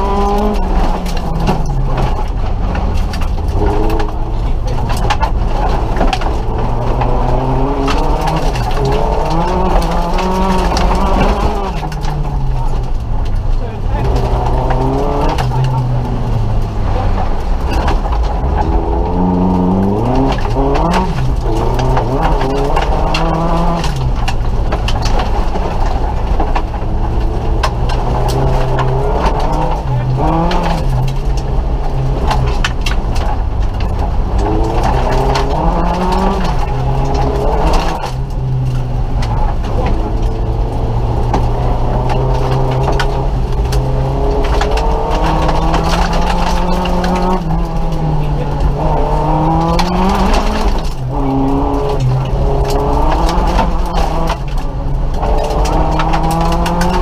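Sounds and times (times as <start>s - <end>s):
rally car engine revving: 0.0s - 57.0s
road and tyre noise: 0.0s - 57.0s.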